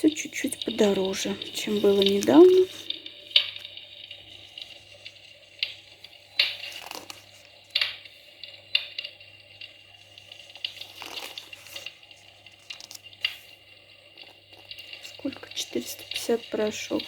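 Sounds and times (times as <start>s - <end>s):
paper pages crackling and rustling: 0.0s - 9.0s, 9.6s - 17.0s.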